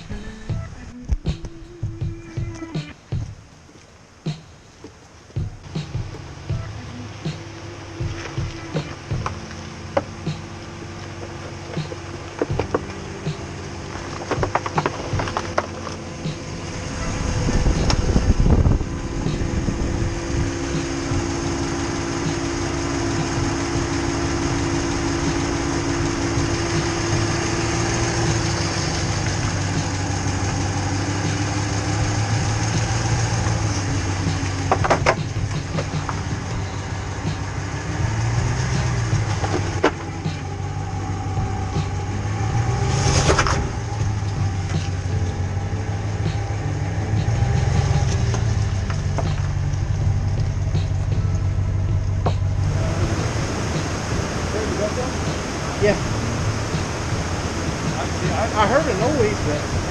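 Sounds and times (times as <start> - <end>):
pickup truck engine running: 0.0 - 59.9.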